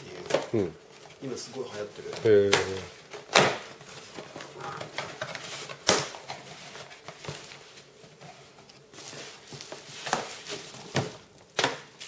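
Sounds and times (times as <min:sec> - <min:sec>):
cardboard flaps rustling: 0:00.1 - 0:12.0.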